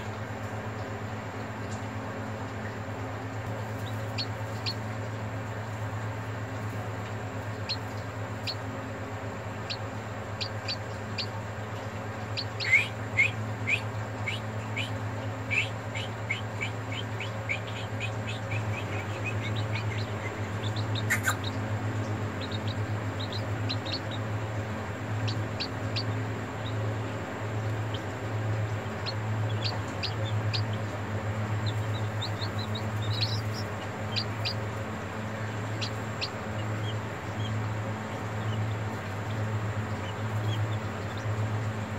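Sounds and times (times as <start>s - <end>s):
chicks peeping: 0.0s - 41.9s
low steady hum: 0.0s - 41.9s.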